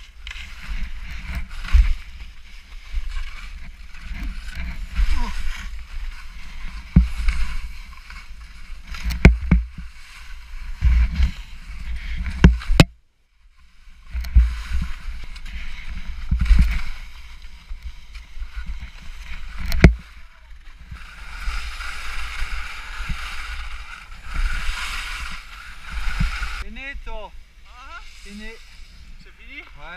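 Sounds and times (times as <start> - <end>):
skis scraping on snow: 0.0 - 12.8, 13.4 - 29.9
skis or poles clacking: 0.0 - 12.9, 14.0 - 26.7
wind rumbling on microphone: 0.0 - 12.9, 13.9 - 26.7.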